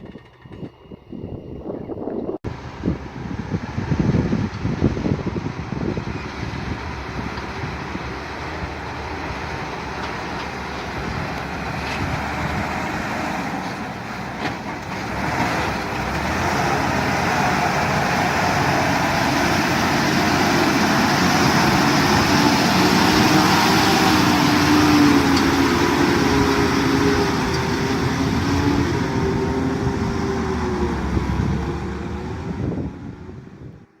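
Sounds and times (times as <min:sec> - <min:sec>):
heavy diesel engine under load: 0:00.0 - 0:34.0.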